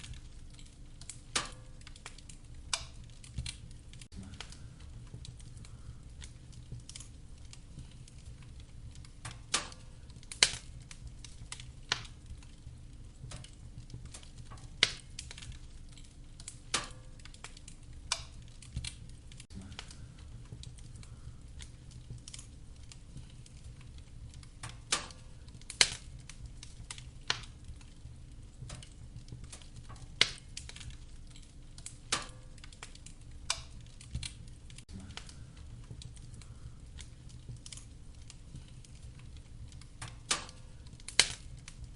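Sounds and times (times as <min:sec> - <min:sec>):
rumble of burning: 0:00.0 - 0:41.9
wood fire crackling: 0:00.0 - 0:41.9.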